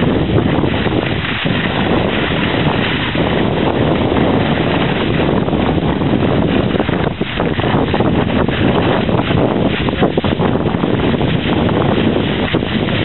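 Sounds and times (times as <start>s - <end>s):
skis sliding over packed snow: 0.0s - 13.0s
wind buffeting microphone: 0.0s - 13.0s.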